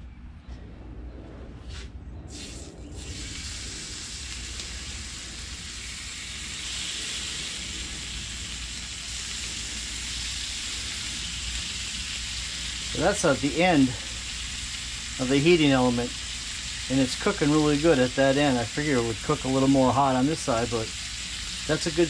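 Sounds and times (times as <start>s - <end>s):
bacon sizzling on griddle: 2.3s - 22.0s.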